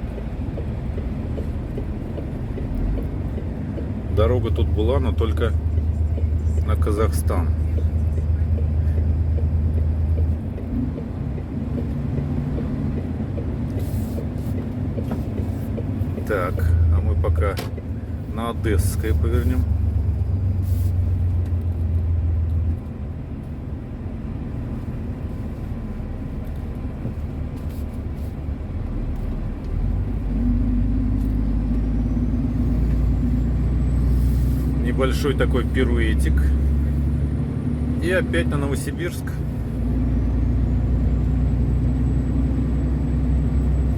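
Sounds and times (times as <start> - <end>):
truck engine droning: 0.0 - 43.9.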